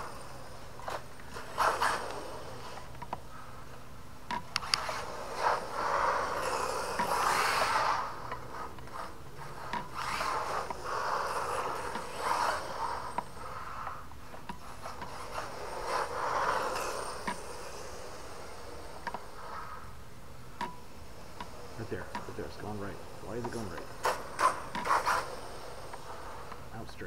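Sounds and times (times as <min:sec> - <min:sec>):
rc car rasping drivetrain: 0:00.0 - 0:27.0.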